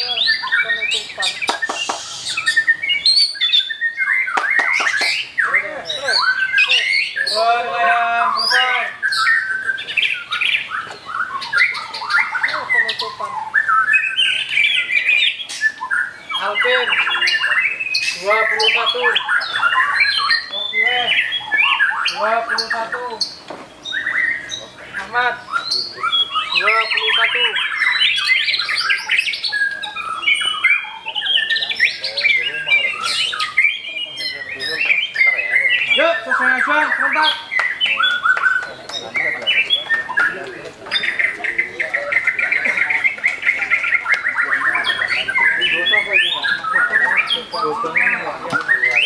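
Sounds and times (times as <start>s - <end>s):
songbird whistling and chattering: 0.0s - 7.6s, 8.2s - 49.0s.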